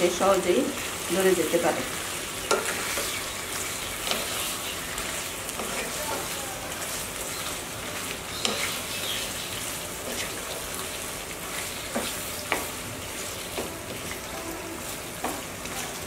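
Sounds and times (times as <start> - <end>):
chicken sizzling in oil: 0.0 - 16.0
spatula stirring in pan: 0.4 - 16.0.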